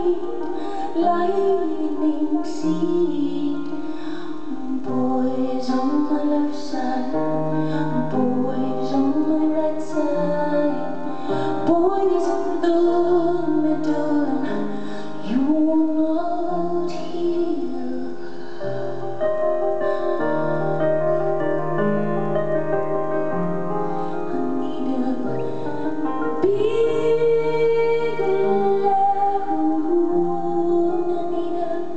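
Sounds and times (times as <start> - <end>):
woman singing: 0.0 - 21.6, 24.2 - 31.9
piano chords: 0.0 - 31.9.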